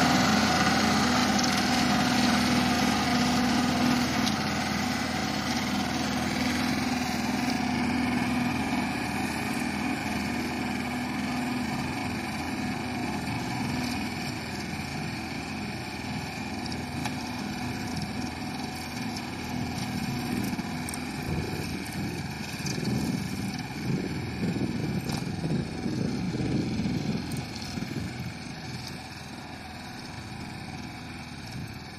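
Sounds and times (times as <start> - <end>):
rotary slasher cutting grass: 0.0 - 31.9
tractor engine running under load: 0.0 - 31.9.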